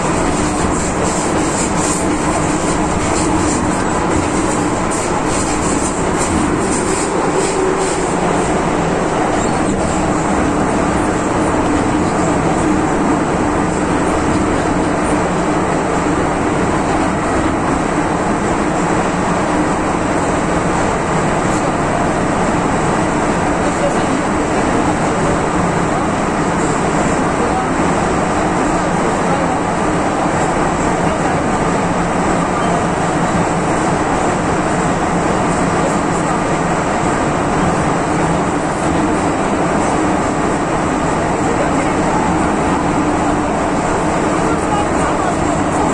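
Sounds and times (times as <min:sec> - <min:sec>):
train rumbling through tunnel: 0:00.0 - 0:45.9.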